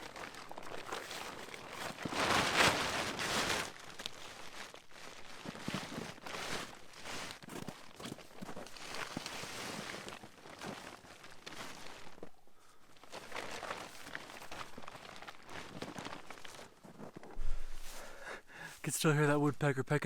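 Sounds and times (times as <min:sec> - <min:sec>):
camping gear rustling: 0:00.0 - 0:18.9
snow crunching: 0:00.0 - 0:19.4.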